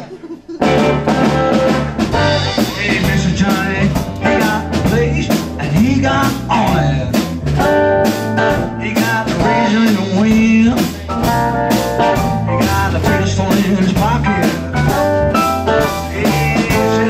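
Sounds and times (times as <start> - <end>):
live swing band playing: 0.0 - 17.0
man singing: 2.2 - 7.4, 8.4 - 17.0.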